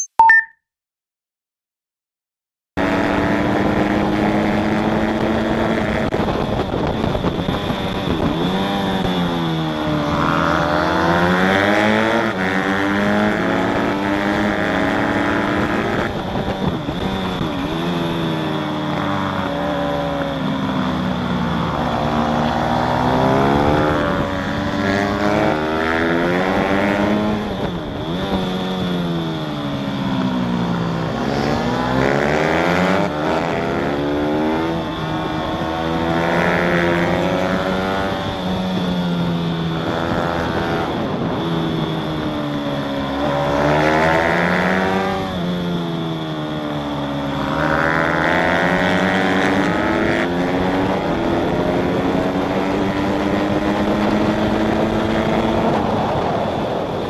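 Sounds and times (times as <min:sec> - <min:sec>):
motorcycle engine revving: 0:02.8 - 0:57.0.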